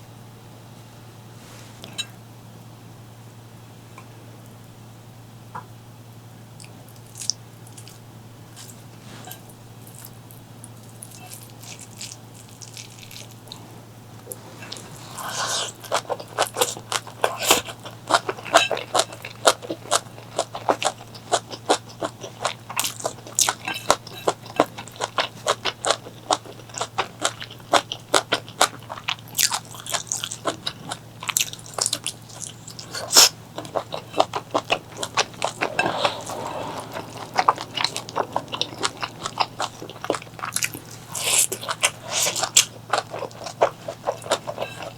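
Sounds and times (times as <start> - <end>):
low electrical hum: 0.0 - 44.9
person chewing crunchy food: 6.6 - 44.9.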